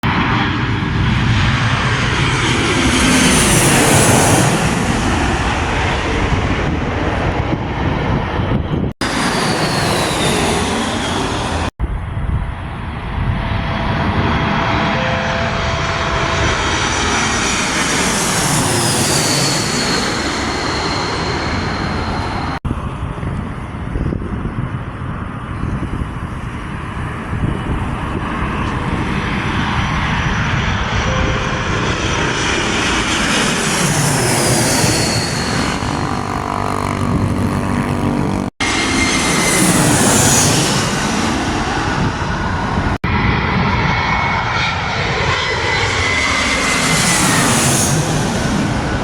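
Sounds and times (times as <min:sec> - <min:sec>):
airplane passing overhead: 0:00.0 - 0:49.0.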